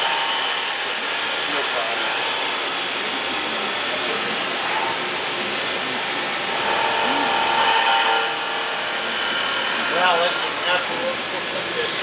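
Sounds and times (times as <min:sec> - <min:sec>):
machining center whirring: 0:00.0 - 0:12.0.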